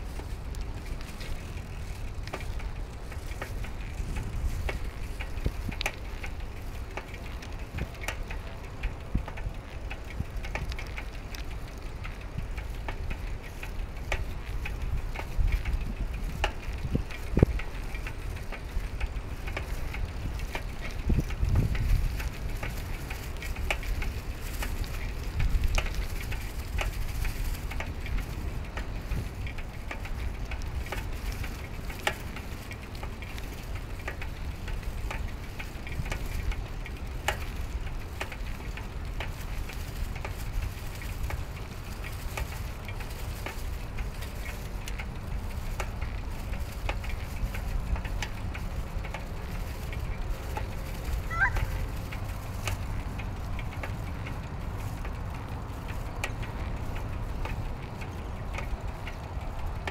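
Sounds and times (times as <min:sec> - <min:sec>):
clicks and crackles: 0:00.0 - 0:59.9
wind and bicycle tyre noise: 0:00.0 - 0:59.9.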